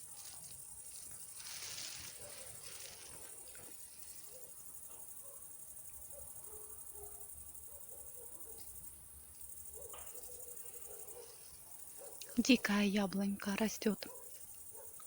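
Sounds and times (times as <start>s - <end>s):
faint small sounds: 0.0s - 15.0s
insects chirring: 0.0s - 15.0s.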